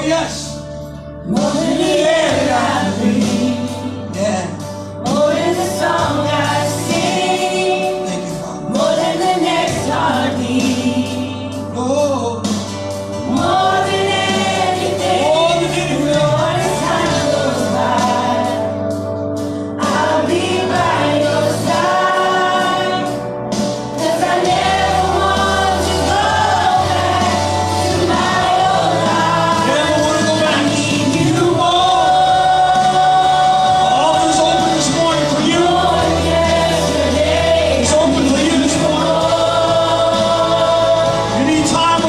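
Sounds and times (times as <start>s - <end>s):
choir singing: 1.2s - 4.0s, 5.0s - 11.6s, 13.2s - 19.0s, 19.8s - 42.0s.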